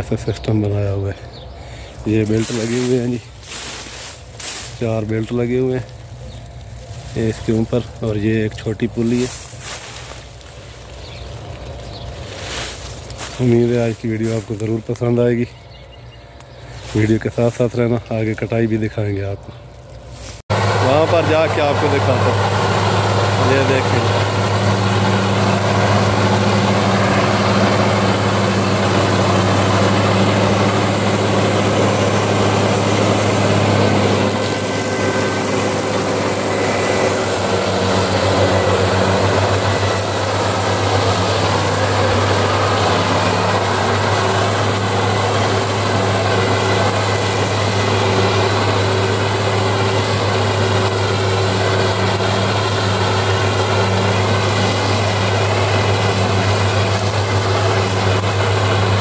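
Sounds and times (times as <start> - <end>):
mower cutting grass: 0.0 - 59.0
tractor engine droning: 0.0 - 59.0.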